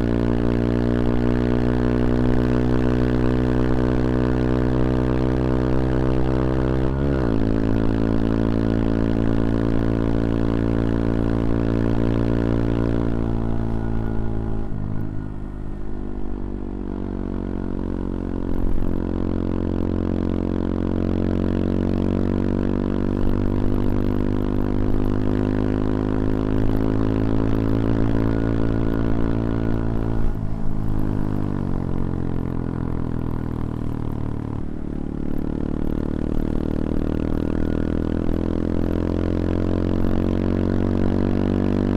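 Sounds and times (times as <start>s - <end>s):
small motorcycle engine running: 0.0s - 41.9s.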